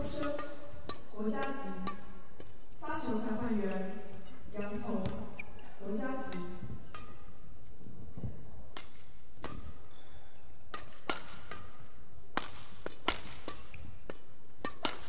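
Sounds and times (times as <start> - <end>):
rackets striking shuttlecocks: 0.0 - 15.0.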